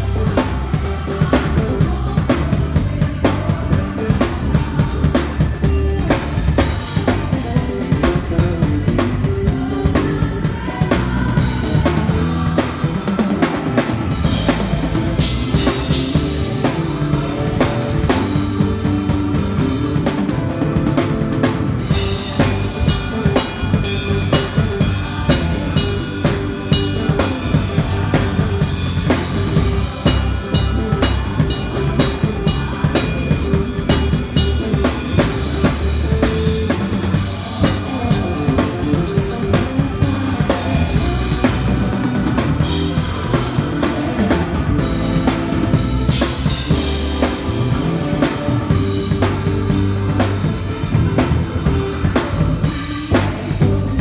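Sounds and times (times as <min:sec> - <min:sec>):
band holding sustained notes: 0:00.0 - 0:54.0
drum kit groove: 0:00.0 - 0:54.0.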